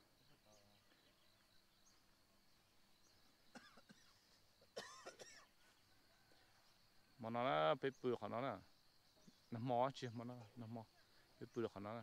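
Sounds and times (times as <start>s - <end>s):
faint chirps: 0.0s - 12.0s.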